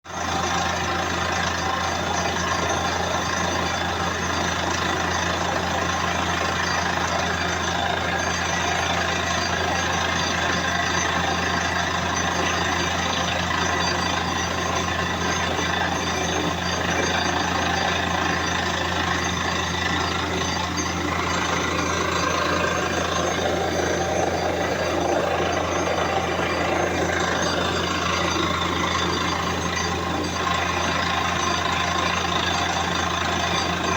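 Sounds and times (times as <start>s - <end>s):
engine low hum: 0.0s - 33.9s.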